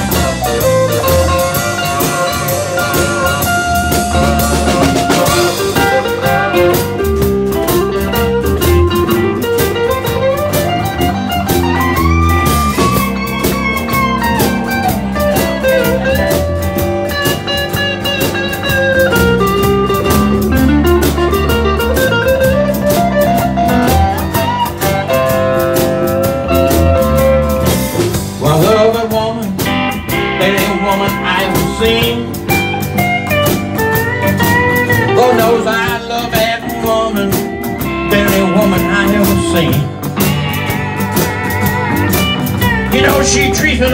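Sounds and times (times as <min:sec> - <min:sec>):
live band playing: 0:00.0 - 0:43.9
sliding bending lead melody: 0:00.0 - 0:43.9.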